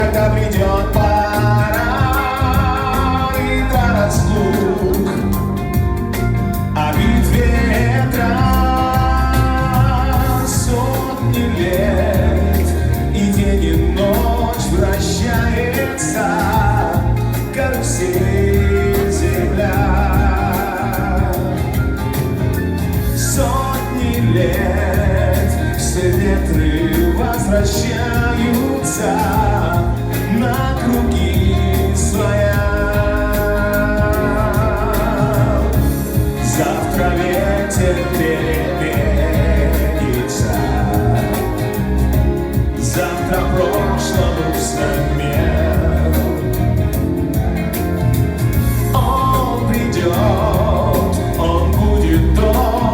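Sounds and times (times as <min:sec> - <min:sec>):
live band playing: 0:00.0 - 0:52.9
person singing: 0:00.0 - 0:52.9.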